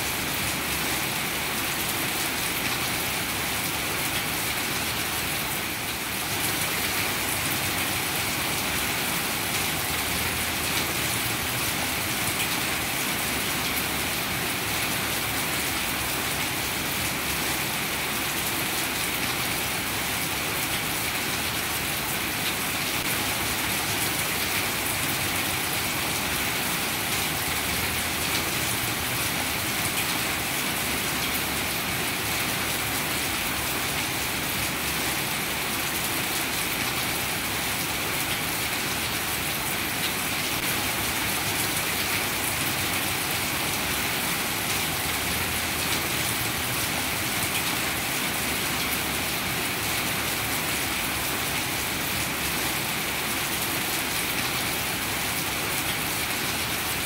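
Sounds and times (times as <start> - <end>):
heavy rain on grass and leaves: 0.0 - 57.0.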